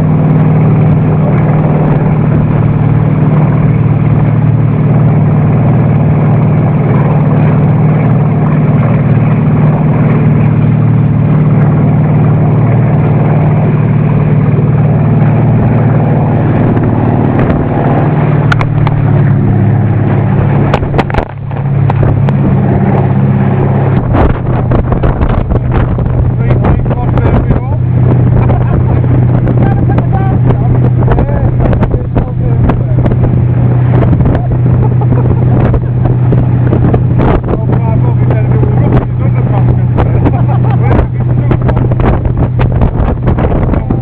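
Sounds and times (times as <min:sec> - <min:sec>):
churning wake water: 0:00.0 - 0:44.0
motorboat engine running: 0:00.0 - 0:44.0
wind rushing: 0:00.0 - 0:44.0.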